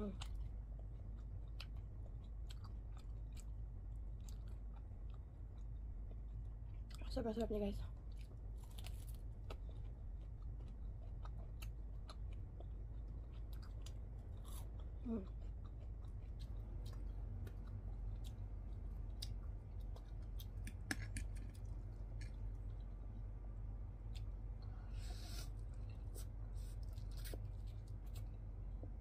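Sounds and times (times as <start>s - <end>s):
chewing crispy food: 0.0s - 24.7s, 25.5s - 29.0s
steady low hum: 0.0s - 29.0s.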